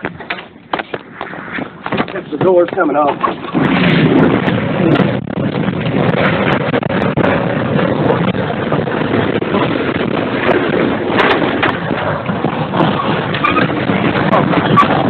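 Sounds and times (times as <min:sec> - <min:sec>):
loud roar of wind: 0:00.0 - 0:15.0.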